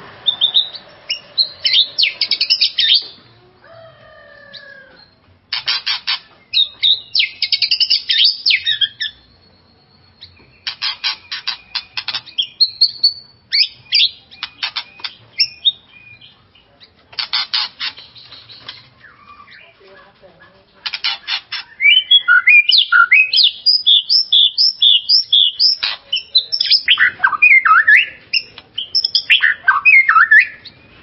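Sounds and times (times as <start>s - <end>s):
songbird singing rattles and whistles: 0.2s - 3.2s, 4.5s - 19.8s, 20.8s - 31.0s.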